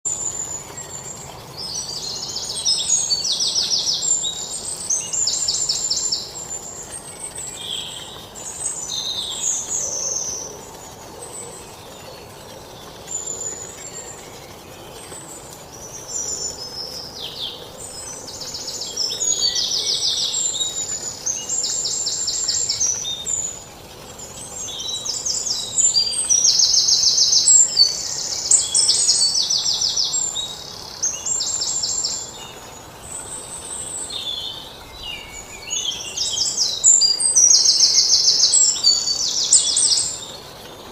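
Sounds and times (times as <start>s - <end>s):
faint outdoor hiss: 0.0s - 40.9s
songbirds singing: 0.0s - 40.9s.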